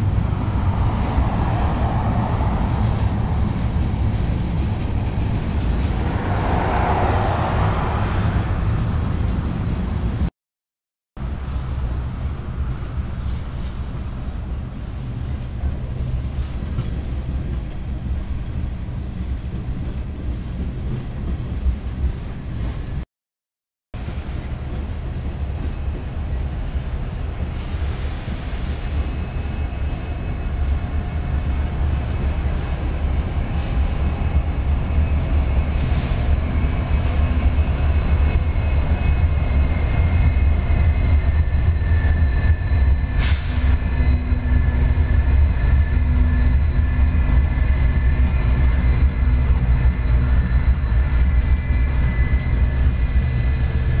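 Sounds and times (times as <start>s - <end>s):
freight train wheels rumbling: 0.0s - 10.3s, 11.2s - 23.0s, 24.0s - 54.0s.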